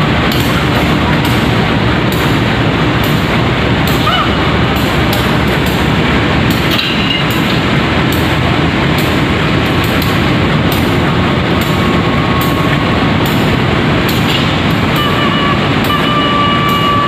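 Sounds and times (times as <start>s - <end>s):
diesel locomotive engine running: 0.0s - 17.0s.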